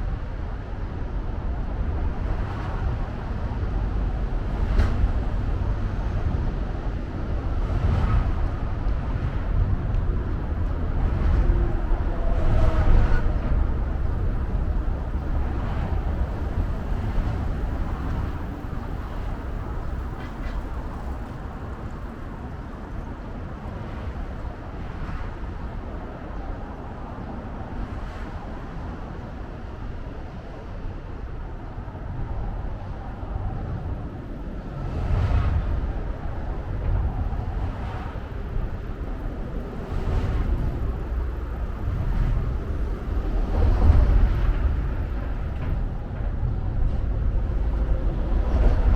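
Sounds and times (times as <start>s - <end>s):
road traffic rumble: 0.1s - 48.9s.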